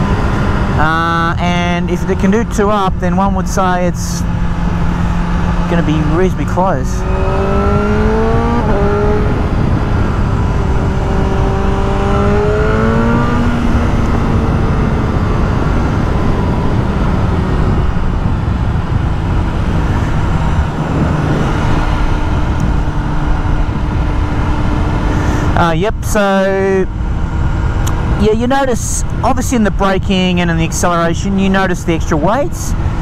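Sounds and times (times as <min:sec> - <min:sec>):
motorcycle engine revving: 0:00.0 - 0:33.0
wind and road rush: 0:00.0 - 0:33.0.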